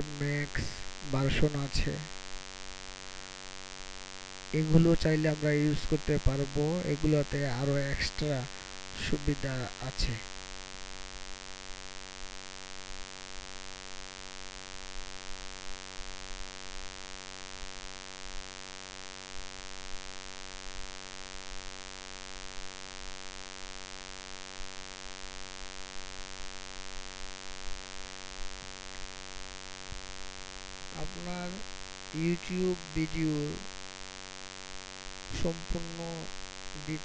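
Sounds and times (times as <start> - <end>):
constant hiss: 0.0 - 37.0
electrical hum: 0.0 - 37.0.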